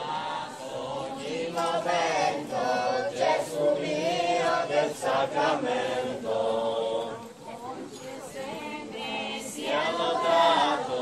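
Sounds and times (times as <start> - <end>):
crowd singing a hymn: 0.0 - 11.0.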